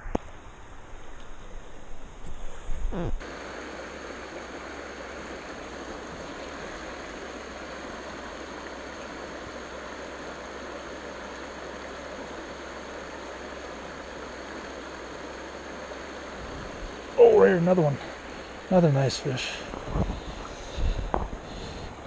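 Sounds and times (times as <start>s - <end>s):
river rushing over rocks: 3.2s - 22.0s.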